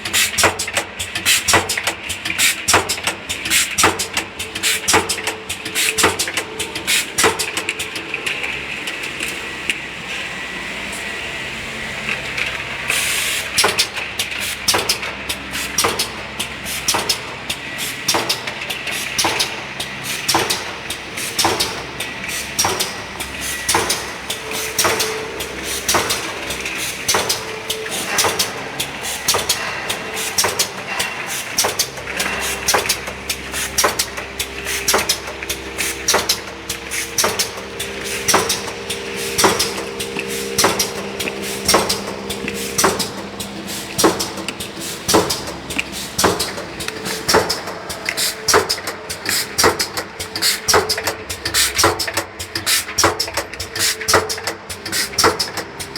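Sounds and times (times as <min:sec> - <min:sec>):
machine clacking: 0:00.0 - 0:08.6, 0:13.0 - 0:55.9
motor hum: 0:02.9 - 0:55.9.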